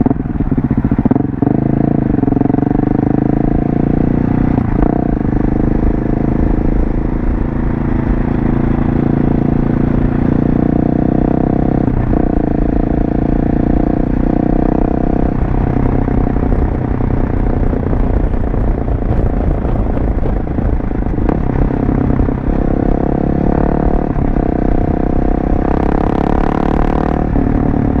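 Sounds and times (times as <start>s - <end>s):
motorcycle engine riding: 0.0s - 28.0s.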